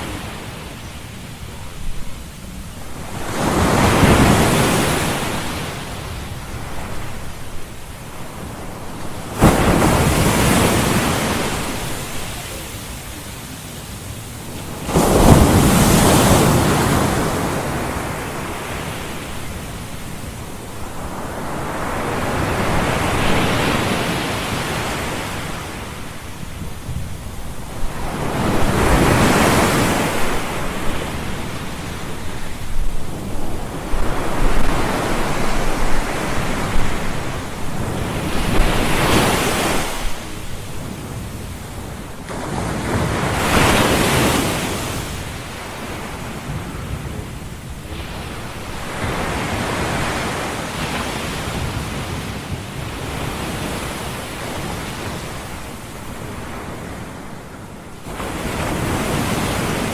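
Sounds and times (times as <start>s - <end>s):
waves breaking and washing back: 0.0s - 59.9s.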